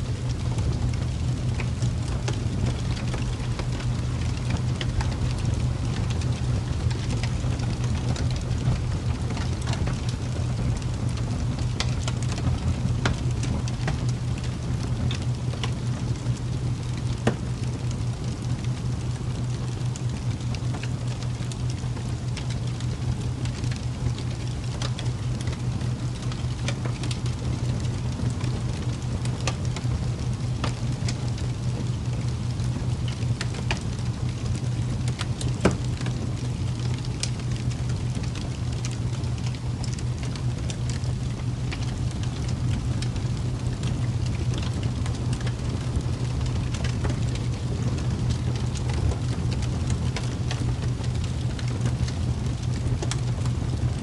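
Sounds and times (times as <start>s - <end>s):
constant low hum: 0.0s - 54.0s
sharp crackles: 0.1s - 54.0s.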